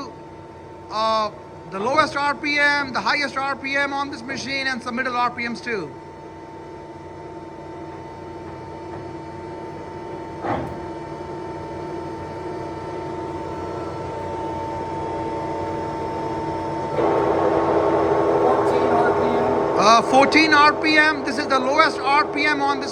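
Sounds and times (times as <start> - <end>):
lathe running with steady hum: 0.0 - 22.9.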